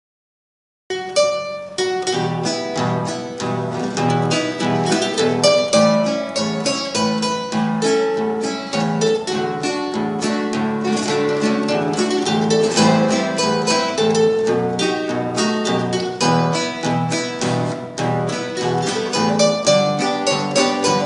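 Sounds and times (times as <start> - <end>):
plucked acoustic guitar melody: 0.9 - 21.0
plucked guitar bass line: 0.9 - 21.0.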